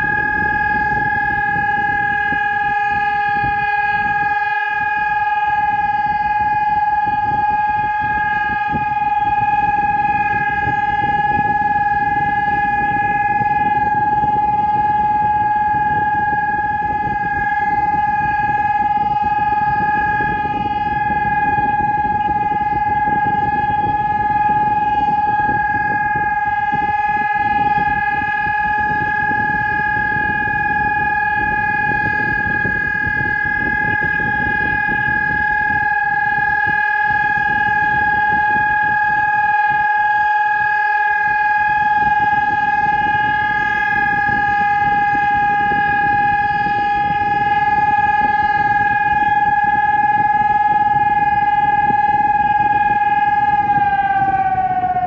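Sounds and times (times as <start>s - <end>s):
electronic siren steady tone: 0.0s - 55.0s.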